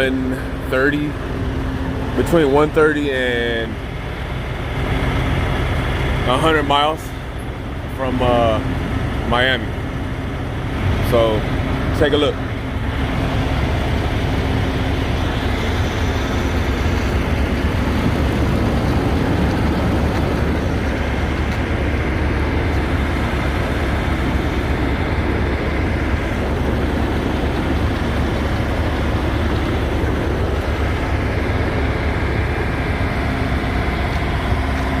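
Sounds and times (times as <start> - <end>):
low truck rumble: 0.0 - 35.0.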